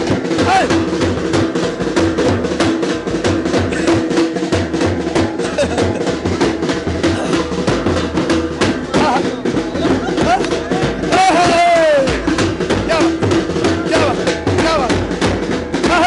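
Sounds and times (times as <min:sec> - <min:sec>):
bass drum beating: 0:00.0 - 0:16.0.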